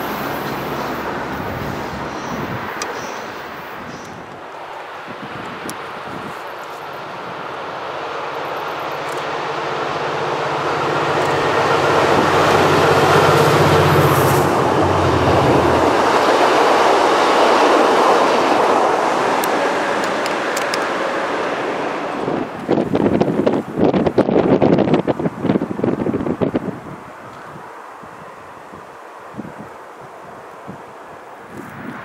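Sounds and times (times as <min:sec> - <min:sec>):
locomotive engine drone: 0:00.0 - 0:32.0.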